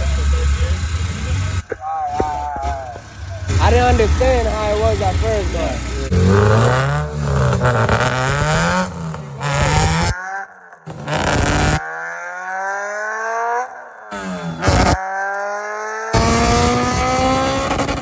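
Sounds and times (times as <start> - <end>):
car engine revving on dyno: 0.0 - 18.0.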